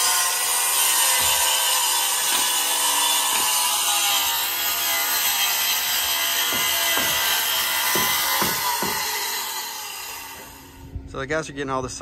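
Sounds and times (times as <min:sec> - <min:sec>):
circular saw cutting wood: 0:00.0 - 0:10.8.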